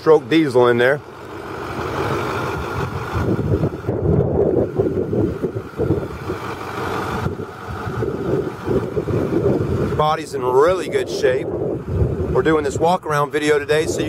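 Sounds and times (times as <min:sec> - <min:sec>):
diesel engine idling: 0:00.0 - 0:14.0
wind buffeting microphone: 0:01.4 - 0:14.0.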